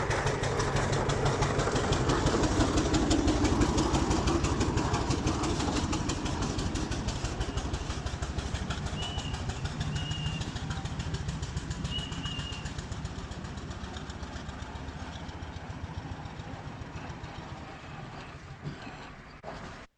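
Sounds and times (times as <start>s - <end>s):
steam roller exhaust chuffing: 0.0s - 19.9s.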